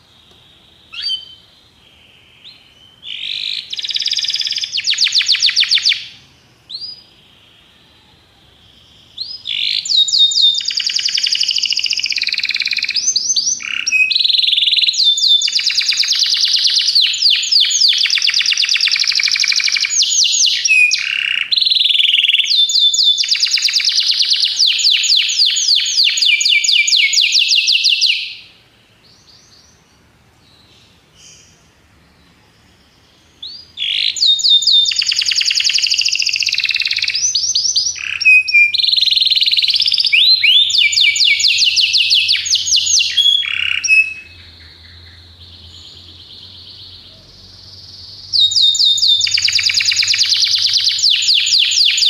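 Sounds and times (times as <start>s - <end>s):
canary singing trills: 0.0s - 52.0s.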